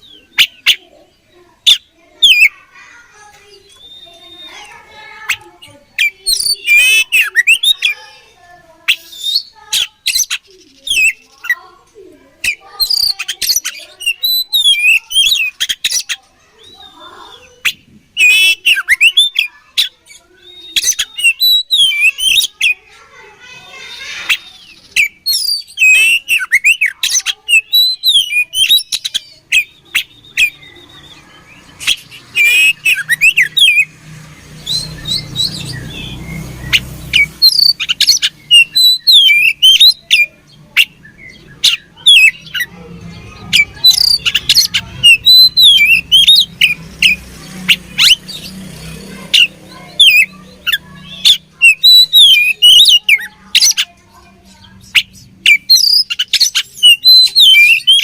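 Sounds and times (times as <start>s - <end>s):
bird singing sharp chirps: 0.0s - 11.8s, 12.4s - 58.0s.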